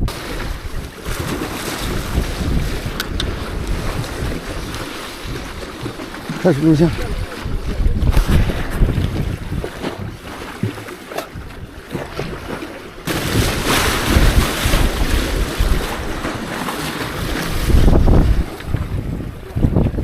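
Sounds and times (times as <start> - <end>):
rushing water: 0.0 - 20.0
wind buffeting microphone: 0.0 - 20.0.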